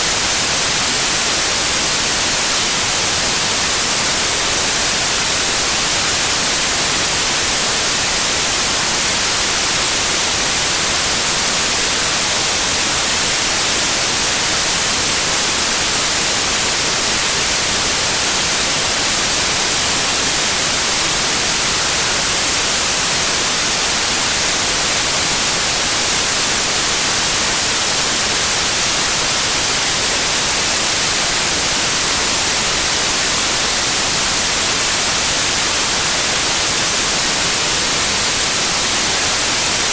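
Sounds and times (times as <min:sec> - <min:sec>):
bright electronic hiss: 0:00.0 - 0:39.9.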